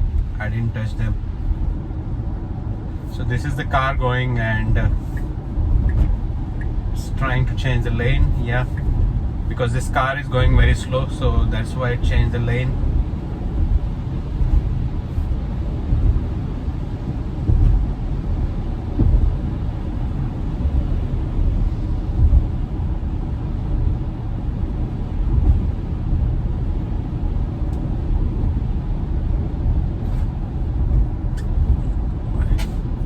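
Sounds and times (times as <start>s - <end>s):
tyre and road noise: 0.0s - 33.0s.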